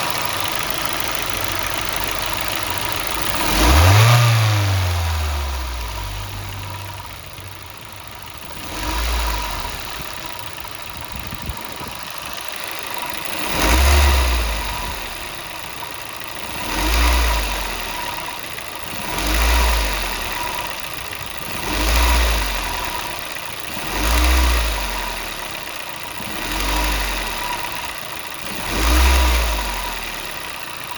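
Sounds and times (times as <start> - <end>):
car engine idling and revving: 0.0 - 30.9
odd engine noise: 0.0 - 30.9.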